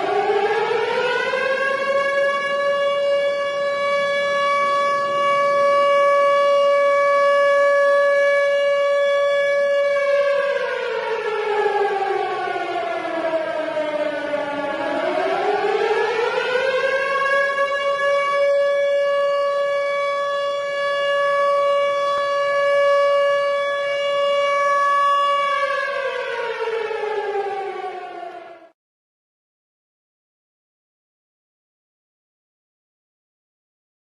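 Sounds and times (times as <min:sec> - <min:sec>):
warning siren wailing: 0:00.0 - 0:28.8.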